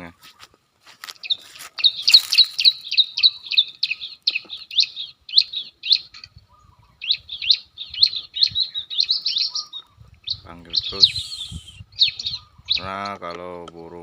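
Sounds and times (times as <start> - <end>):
bird call sharp rising chirps: 1.2 - 12.8.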